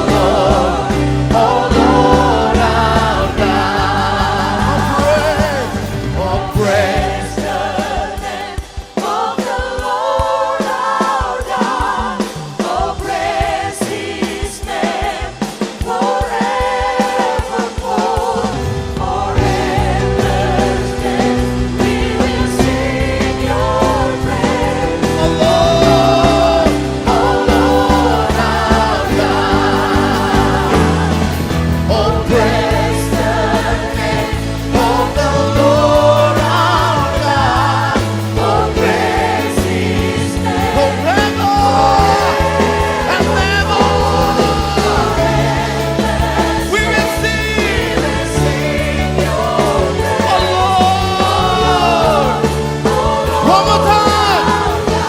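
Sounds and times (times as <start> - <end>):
bass line: 0.0 - 8.5, 18.3 - 55.0
steady drum beat: 0.0 - 55.0
worship band and singers: 0.0 - 55.0.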